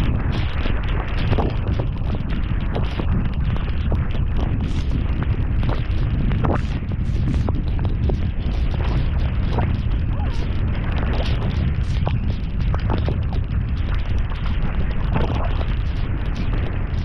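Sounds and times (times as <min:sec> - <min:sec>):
hiss of rain: 0:00.0 - 0:17.0
raindrops ticking close by: 0:00.0 - 0:17.0
wind buffeting the microphone: 0:00.0 - 0:17.0.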